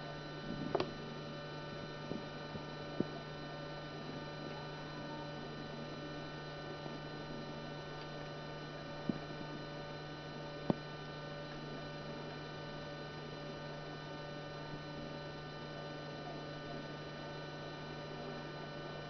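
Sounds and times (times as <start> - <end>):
electrical hum with whine: 0.0 - 19.0.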